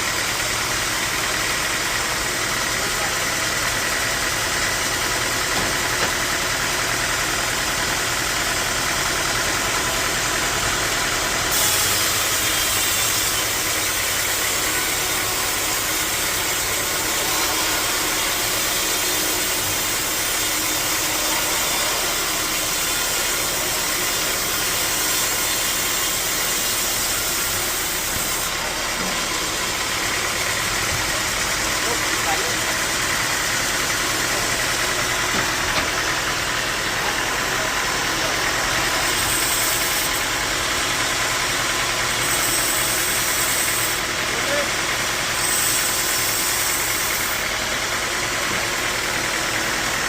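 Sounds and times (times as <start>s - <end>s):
bandsaw mechanical drone: 0.0s - 50.0s.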